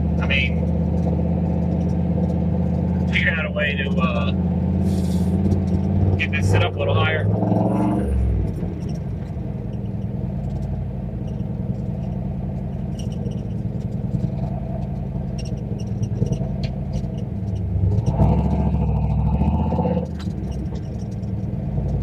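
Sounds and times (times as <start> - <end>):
car engine droning: 0.0 - 22.0
engine ticks and clatter: 0.0 - 22.0.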